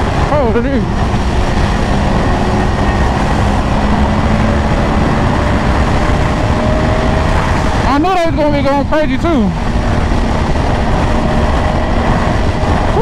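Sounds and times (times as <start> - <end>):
motorcycle engine drone: 0.0 - 13.0
wind rushing over microphone: 0.0 - 13.0.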